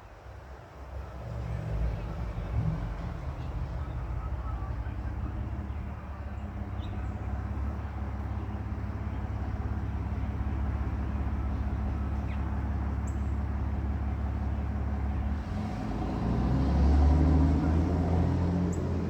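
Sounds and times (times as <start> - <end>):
car engine drone: 0.0 - 19.0
road traffic rumble: 0.0 - 19.0.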